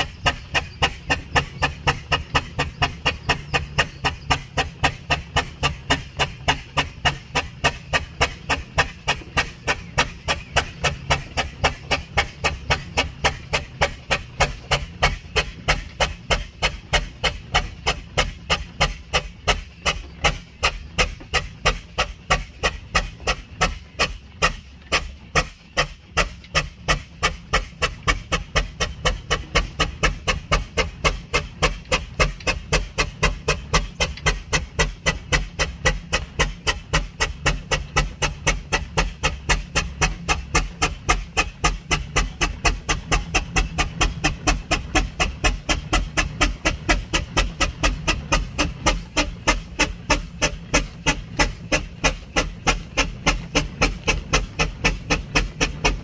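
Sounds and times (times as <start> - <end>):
steam engine running: 0.0 - 56.0.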